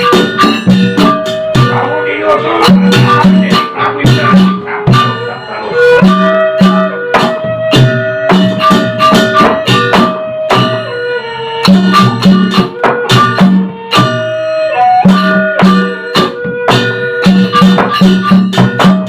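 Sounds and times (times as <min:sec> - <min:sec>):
hand drum strokes: 0:00.0 - 0:19.0
held melodic line: 0:00.0 - 0:19.0
struck metal notes ringing: 0:00.0 - 0:19.0.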